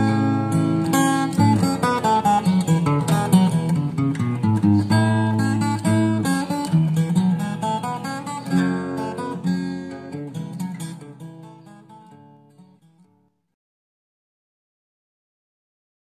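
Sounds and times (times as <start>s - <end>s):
fingerstyle acoustic guitar: 0.0s - 13.4s.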